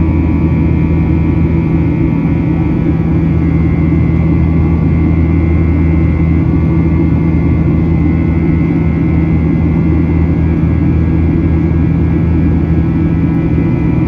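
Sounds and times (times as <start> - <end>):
airplane cabin engine roar: 0.0 - 14.0.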